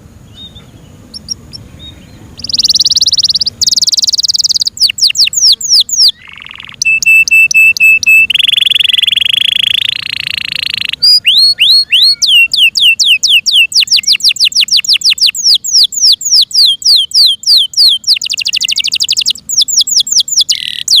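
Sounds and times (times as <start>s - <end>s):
canary singing: 0.3s - 21.0s.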